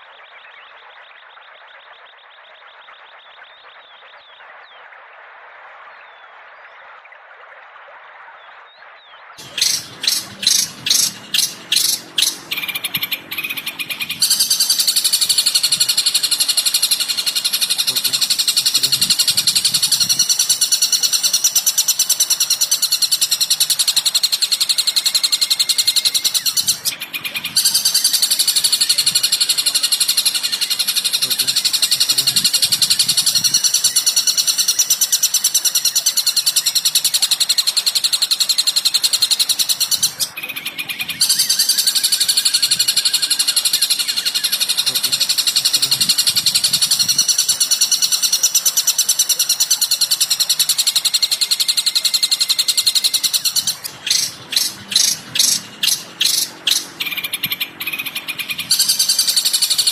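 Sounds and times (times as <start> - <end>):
bird song with fast trill: 8.7 - 59.9.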